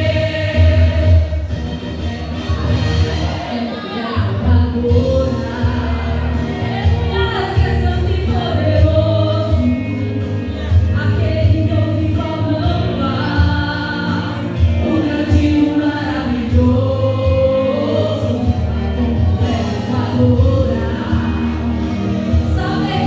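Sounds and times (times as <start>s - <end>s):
choir singing a hymn: 0.0s - 23.0s
instrumental accompaniment with bass: 0.0s - 23.0s.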